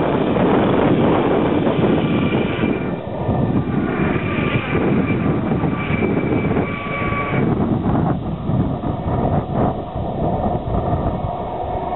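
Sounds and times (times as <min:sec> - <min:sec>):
high turbine whine: 0:00.0 - 0:11.9.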